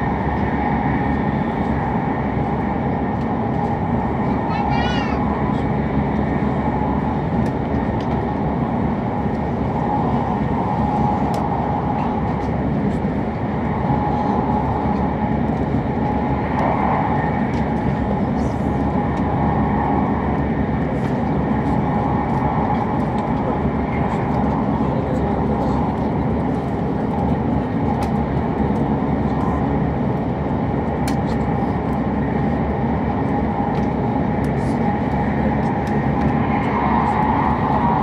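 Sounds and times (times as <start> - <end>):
train cabin rumble and rush: 0.0 - 38.0.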